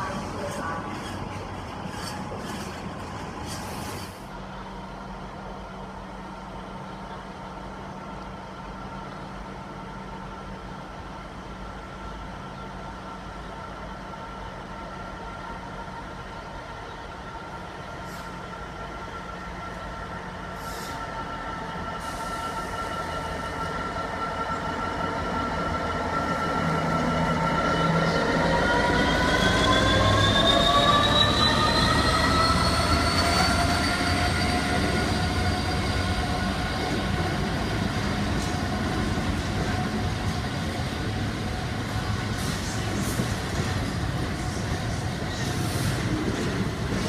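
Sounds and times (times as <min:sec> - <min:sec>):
diesel locomotive whine: 0:00.0 - 0:47.0.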